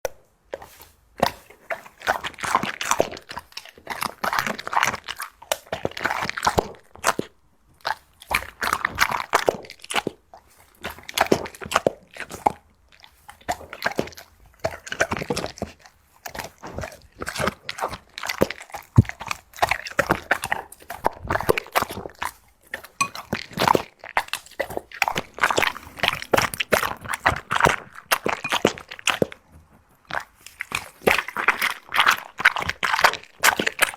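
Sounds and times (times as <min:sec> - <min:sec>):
dog chewing food: 0:00.5 - 0:33.9.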